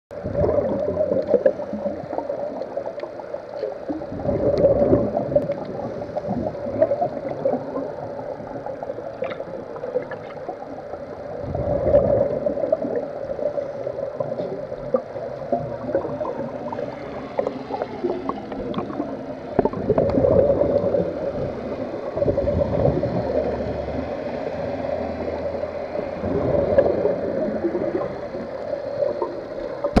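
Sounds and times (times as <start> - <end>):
underwater exhaled bubbles gurgling: 0.1 - 30.0.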